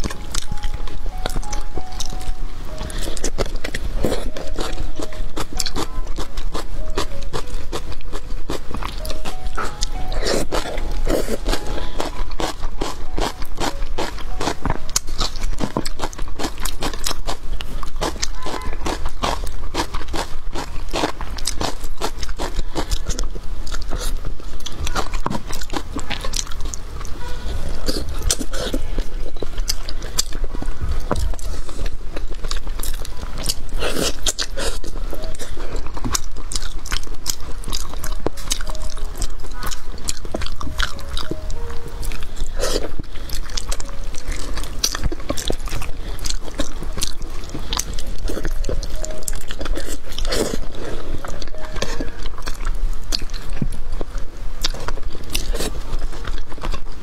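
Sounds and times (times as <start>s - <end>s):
faint background music: 0.0s - 57.0s
wet chewing and lip-smacking: 0.0s - 57.0s.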